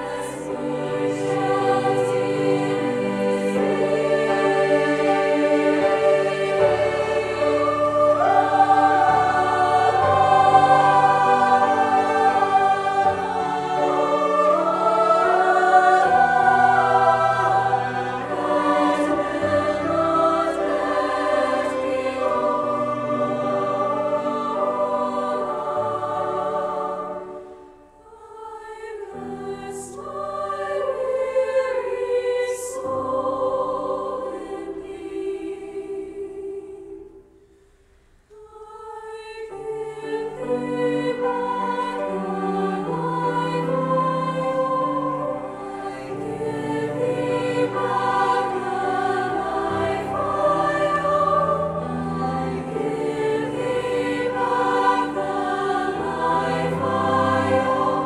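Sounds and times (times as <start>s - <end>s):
cello: 0.0s - 37.0s, 38.4s - 58.0s
women's choir singing: 0.0s - 37.7s, 38.3s - 58.0s
piano: 0.0s - 58.0s.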